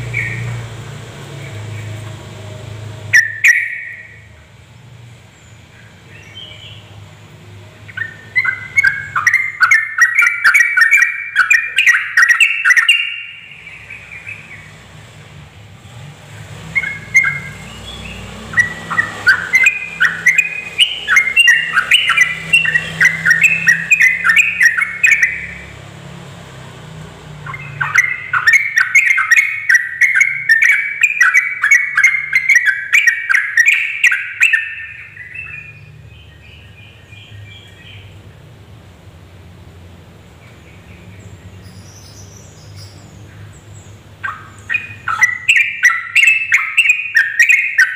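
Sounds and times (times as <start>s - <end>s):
bird chattering song: 0.0s - 2.2s, 3.0s - 4.4s, 5.3s - 38.6s, 40.2s - 47.9s.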